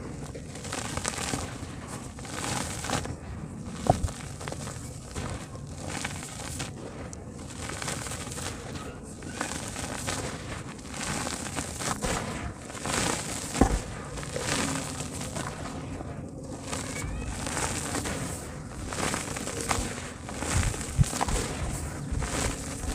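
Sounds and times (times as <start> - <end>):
dirt crumbling in water: 0.0 - 22.9.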